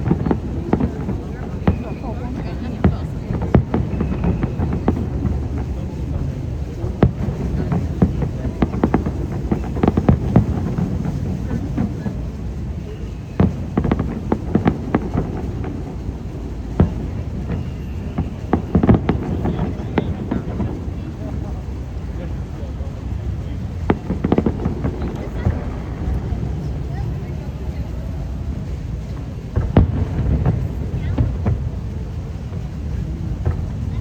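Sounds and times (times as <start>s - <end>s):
fireworks pops and bangs: 0.0s - 34.0s.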